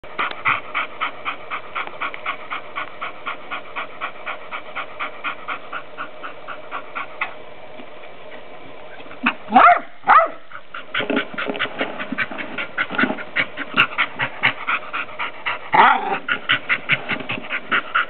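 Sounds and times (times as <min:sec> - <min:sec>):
dog panting rapidly: 0:00.0 - 0:07.4, 0:10.4 - 0:18.0.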